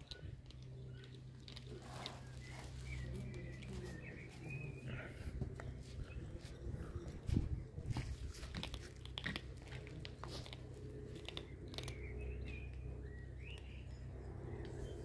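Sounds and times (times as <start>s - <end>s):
kitten crunching dry kibble: 0.0s - 14.5s.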